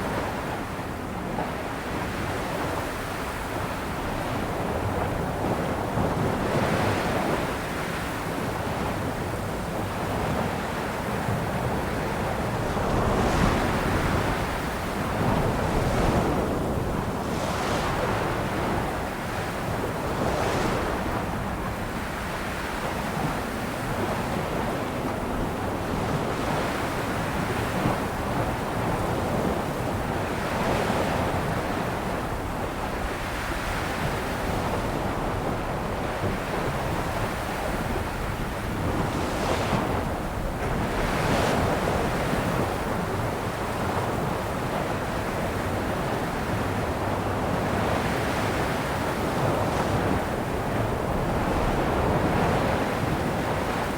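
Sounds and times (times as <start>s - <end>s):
ocean waves breaking on shore: 0.0s - 53.9s
wind noise on microphone: 0.0s - 53.9s.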